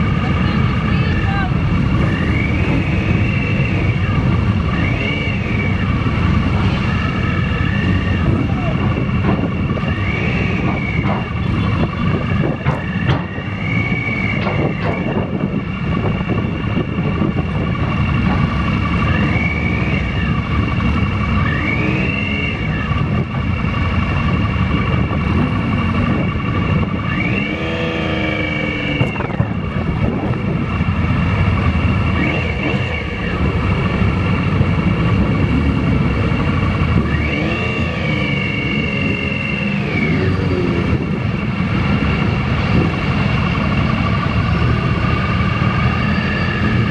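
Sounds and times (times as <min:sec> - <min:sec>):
wind rumble on microphone: 0:00.0 - 0:21.4, 0:22.5 - 0:38.5, 0:39.6 - 0:46.9
motorcycle engine running: 0:00.0 - 0:46.9.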